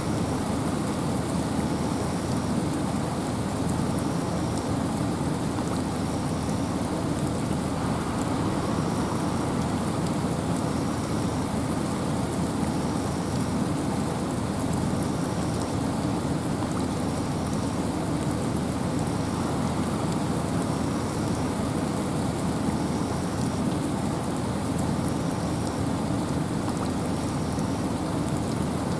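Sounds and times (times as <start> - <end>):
steady rain: 0.0 - 28.9
wind in a forest: 0.0 - 28.9.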